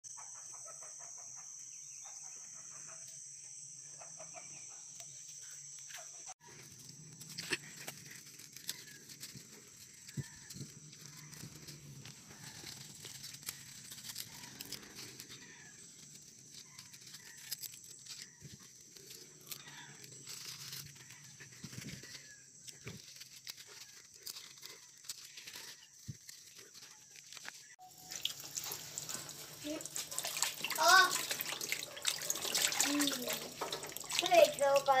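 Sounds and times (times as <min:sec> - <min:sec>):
stems snapping and leaves tearing: 0:06.7 - 0:35.0.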